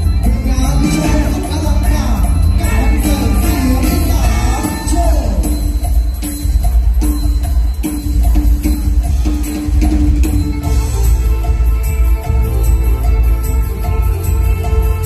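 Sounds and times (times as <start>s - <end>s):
loud band music through speakers: 0.0s - 15.0s.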